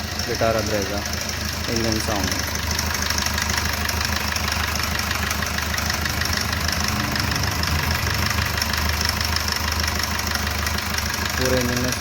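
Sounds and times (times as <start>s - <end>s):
car engine idling: 0.0s - 12.0s
engine ticking knock: 0.0s - 12.0s.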